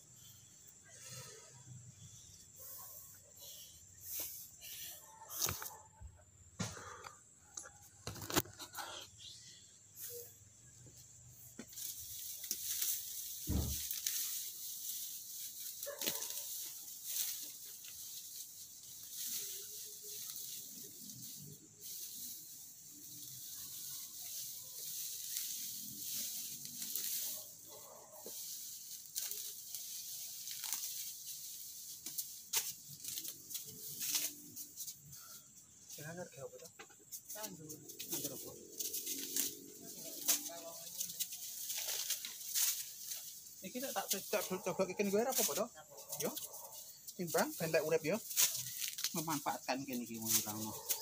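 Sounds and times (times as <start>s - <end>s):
rustling of leaves and soil: 0.0s - 51.0s.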